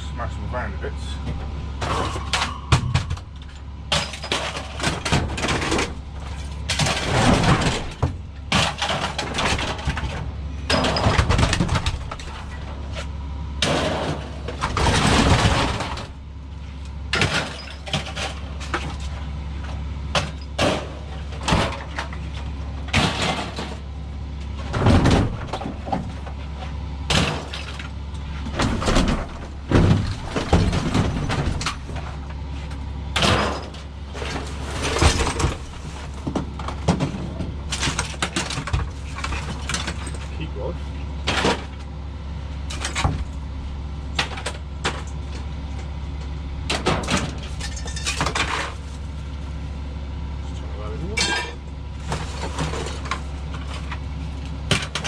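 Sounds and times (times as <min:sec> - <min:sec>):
steady low hum: 0:00.0 - 0:55.0
scrap metal clanking and crashing: 0:01.3 - 0:16.2, 0:17.0 - 0:41.9, 0:42.6 - 0:45.8, 0:46.6 - 0:49.6, 0:50.5 - 0:55.0.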